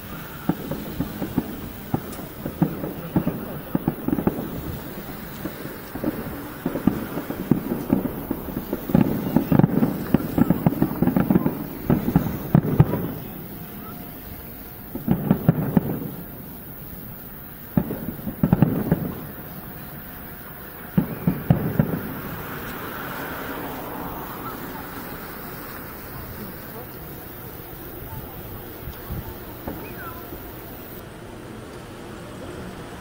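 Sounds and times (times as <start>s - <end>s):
distant firework shells bursting: 0.0s - 31.0s.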